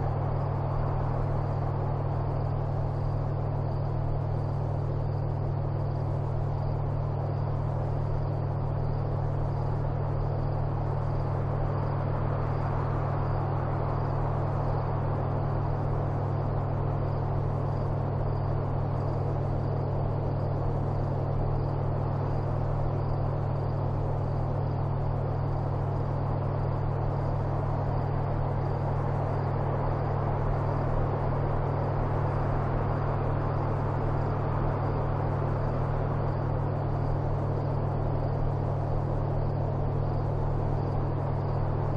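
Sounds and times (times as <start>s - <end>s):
low hum and rumble: 0.0s - 41.9s.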